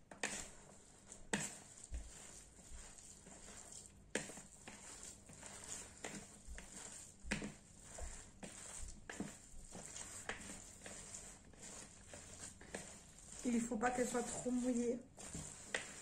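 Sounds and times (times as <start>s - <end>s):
hands squelching meat mixture: 0.0s - 16.0s.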